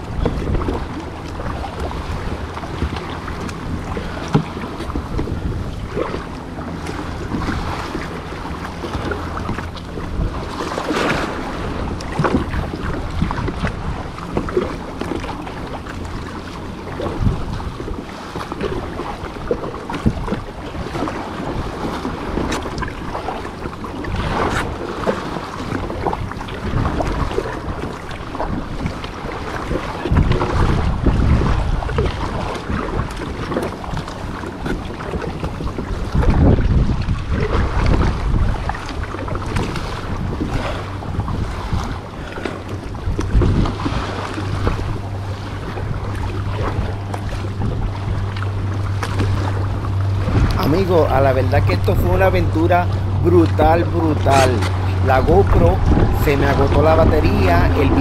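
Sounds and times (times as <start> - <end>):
water splashing against hull: 0.0 - 58.0
wind buffeting microphone: 0.0 - 58.0.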